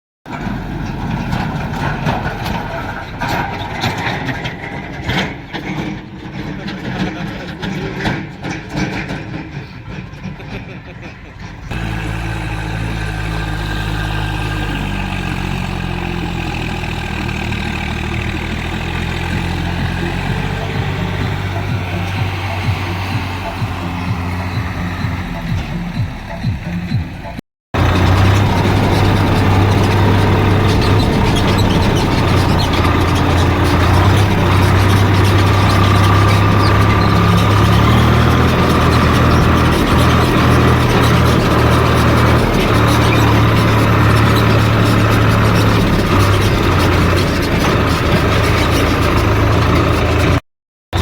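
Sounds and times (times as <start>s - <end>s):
heavy diesel engine idling: 0.3s - 7.7s, 11.6s - 51.0s.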